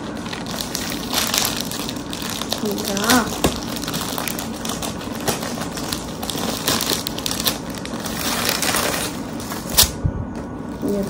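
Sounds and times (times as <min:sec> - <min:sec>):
plastic bag crinkling: 0:00.0 - 0:10.0, 0:10.6 - 0:11.0.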